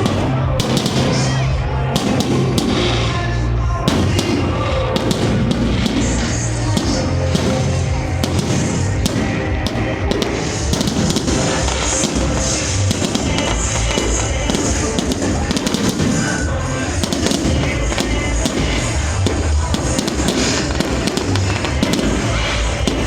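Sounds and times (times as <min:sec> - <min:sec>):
fireworks cracking and popping: 0:00.0 - 0:23.0
low booms: 0:00.0 - 0:23.0
music playing: 0:00.0 - 0:23.0.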